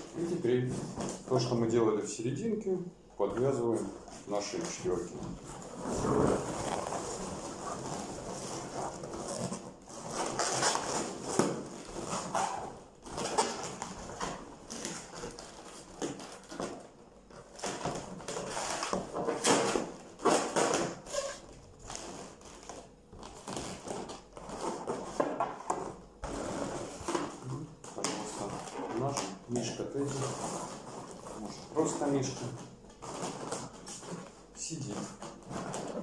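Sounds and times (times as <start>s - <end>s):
balloons squeaking and rubbing: 0.0s - 1.8s, 2.6s - 36.0s.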